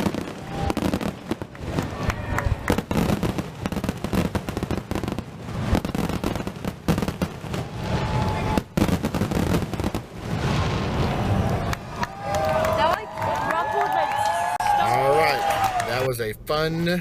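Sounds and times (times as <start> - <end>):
fireworks bangs and crackling: 0.0 - 14.4.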